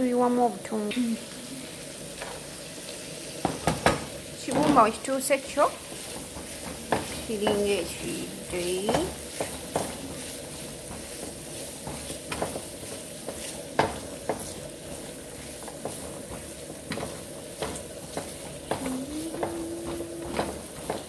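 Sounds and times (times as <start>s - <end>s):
liver and onions sizzling in a pan: 0.0s - 21.0s
wooden spatula scraping and tapping pan: 3.4s - 21.0s.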